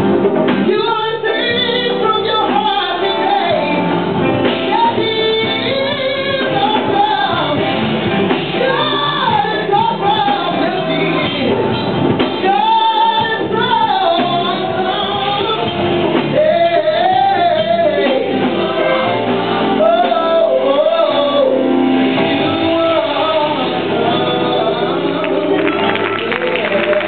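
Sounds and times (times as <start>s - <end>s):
instrumental backing: 0.0s - 27.0s
group singing gospel song: 0.6s - 27.0s.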